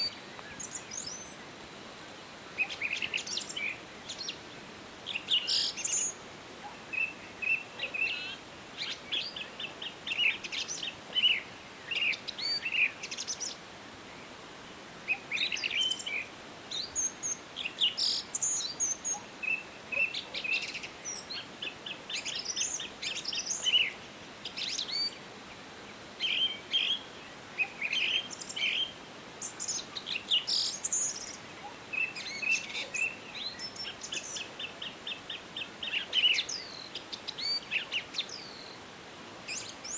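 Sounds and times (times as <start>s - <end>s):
forest background hiss: 0.0s - 39.9s
songbirds singing and calling: 0.0s - 39.9s.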